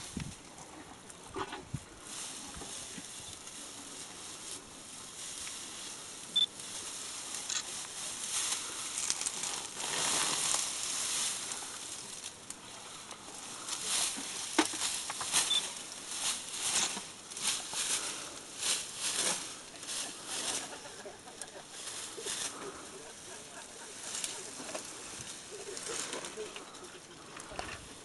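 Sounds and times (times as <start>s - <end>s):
elephant tearing and chewing grass: 1.4s - 28.0s.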